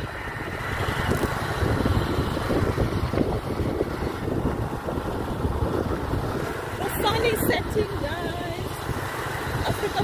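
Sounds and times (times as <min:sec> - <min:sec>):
motorcycle riding on dirt road: 0:00.0 - 0:10.0
wind rushing over microphone: 0:00.0 - 0:10.0.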